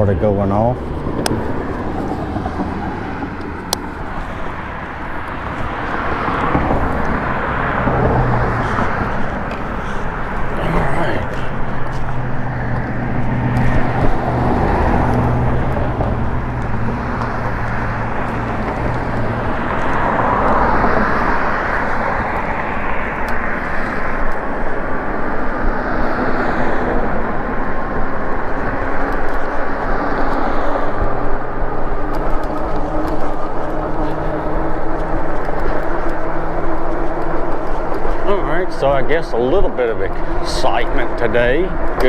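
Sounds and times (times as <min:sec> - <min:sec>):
traffic noise: 0:00.0 - 0:42.0
vehicle passing: 0:00.0 - 0:42.0.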